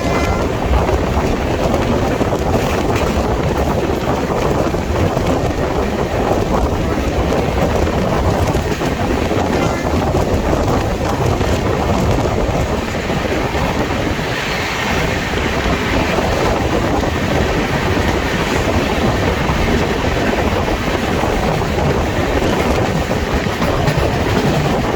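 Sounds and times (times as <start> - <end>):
passenger train rushing past: 0.0 - 24.9.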